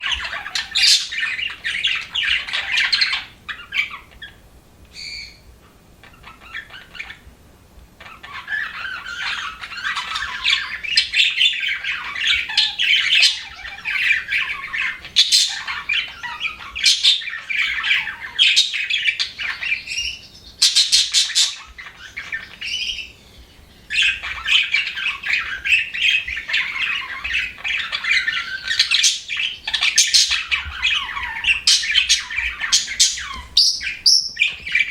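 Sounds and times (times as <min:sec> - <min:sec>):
budgerigars chattering: 0:00.0 - 0:07.3, 0:08.0 - 0:34.9.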